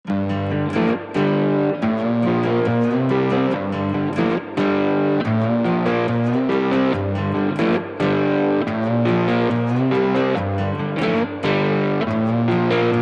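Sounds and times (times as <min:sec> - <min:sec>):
guitar background music: 0:00.0 - 0:13.0.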